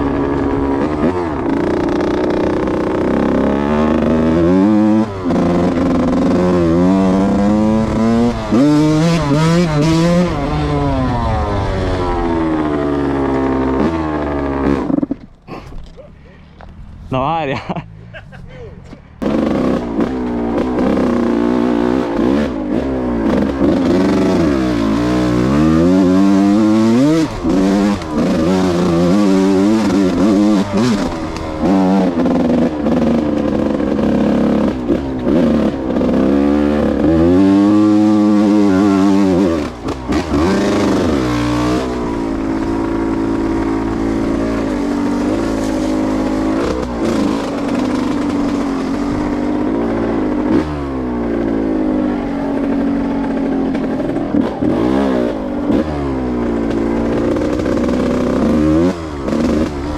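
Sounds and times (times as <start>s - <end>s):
two-stroke dirt bike engine revving: 0.0s - 16.3s, 19.1s - 59.9s.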